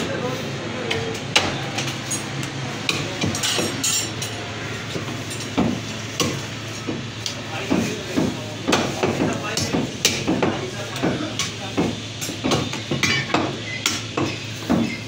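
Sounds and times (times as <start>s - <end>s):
cleavers chopping meat and bone: 0.8s - 1.9s, 2.8s - 3.8s, 4.9s - 15.0s.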